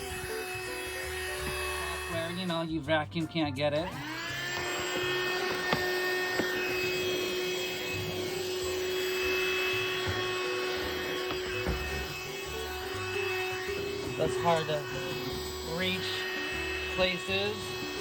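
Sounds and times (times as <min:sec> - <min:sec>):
handheld vacuum cleaner running: 0:00.0 - 0:02.8, 0:03.7 - 0:18.0.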